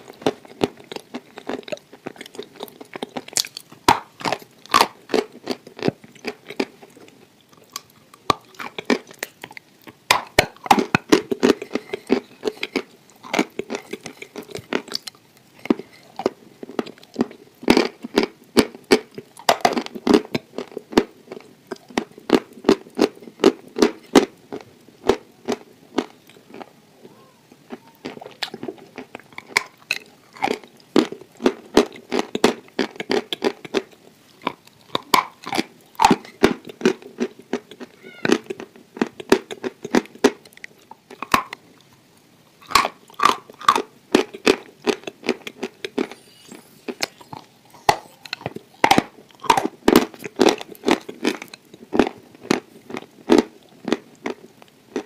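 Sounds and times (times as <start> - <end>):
chewing crunchy food: 0.0 - 55.0.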